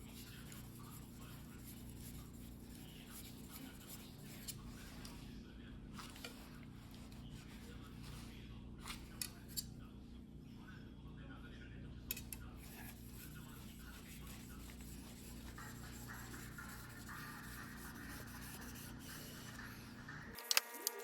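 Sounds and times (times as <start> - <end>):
low steady hum: 0.0 - 20.4.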